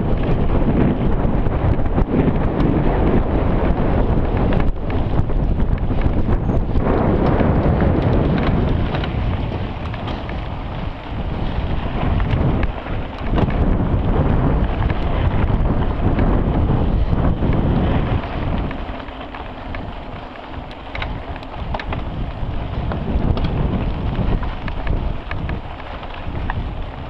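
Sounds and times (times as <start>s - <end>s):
bike rattling and clicking: 0.0s - 27.0s
tyres rumbling on dirt: 0.0s - 27.0s
wind buffeting microphone: 0.0s - 27.0s.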